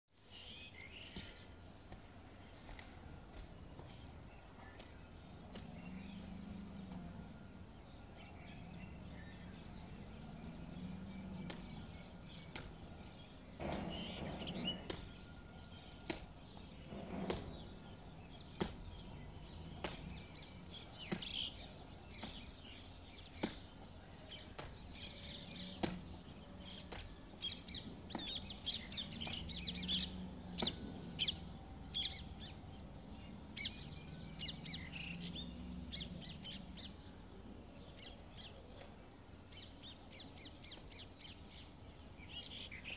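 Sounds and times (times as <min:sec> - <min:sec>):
birds chirping and calling: 0:03.8 - 0:42.9.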